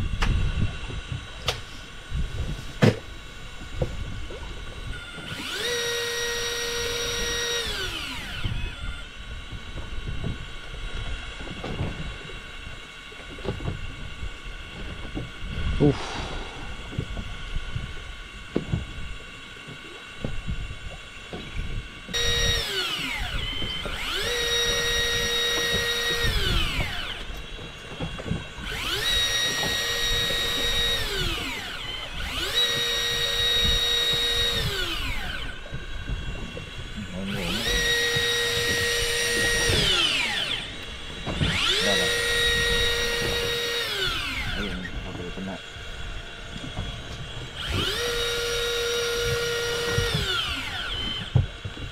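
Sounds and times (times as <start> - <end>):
small electric motor whining: 3.4 - 14.8, 19.1 - 51.9.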